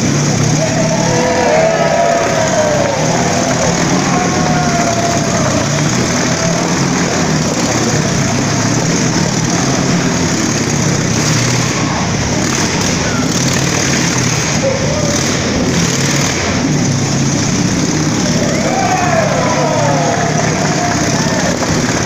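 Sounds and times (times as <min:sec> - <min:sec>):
motorcycle engines running hard: 0:00.0 - 0:22.0.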